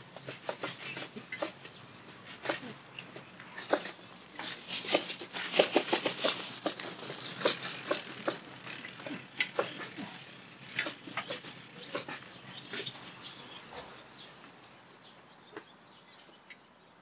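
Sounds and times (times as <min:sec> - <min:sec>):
bicycle rattling and clicking: 0:00.0 - 0:14.8.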